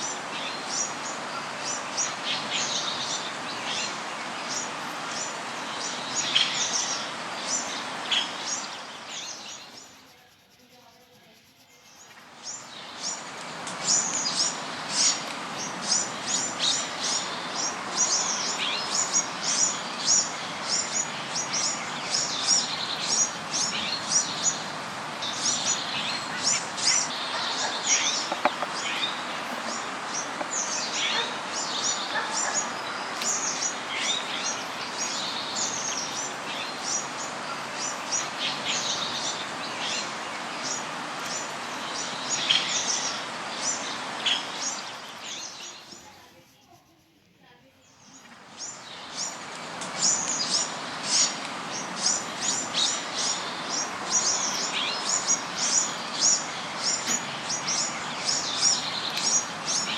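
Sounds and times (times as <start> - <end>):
background hiss: 0.0 - 59.9
small birds chirping: 0.0 - 59.9.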